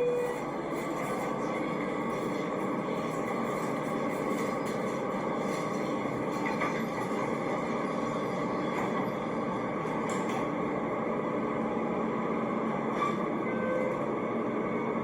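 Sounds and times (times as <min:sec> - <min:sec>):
elevator mechanical rumble and hum: 0:00.0 - 0:15.0.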